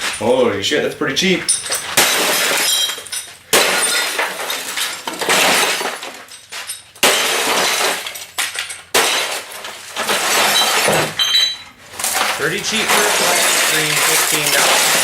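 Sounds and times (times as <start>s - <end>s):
breaking glass tinkling: 1.4s - 15.0s
glass smashing: 1.4s - 15.0s.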